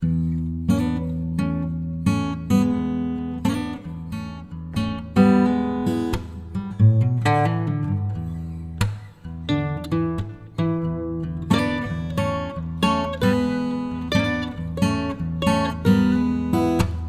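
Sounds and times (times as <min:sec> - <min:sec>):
acoustic guitar strumming chords: 0:00.2 - 0:17.0.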